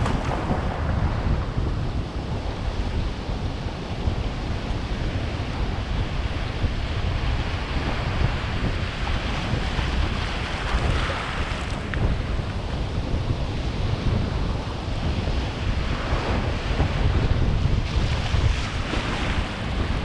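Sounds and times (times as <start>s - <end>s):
ocean waves breaking: 0.0s - 20.0s
wind buffeting microphone: 0.0s - 20.0s.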